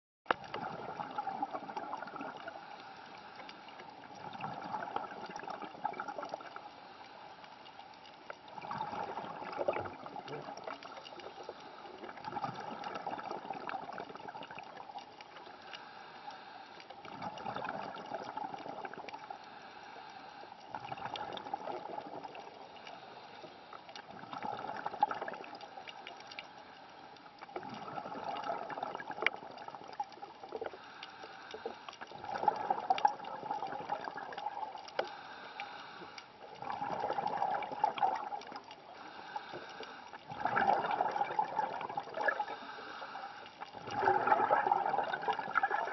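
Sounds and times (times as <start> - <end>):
underwater breathing bubbles: 0.3 - 45.9.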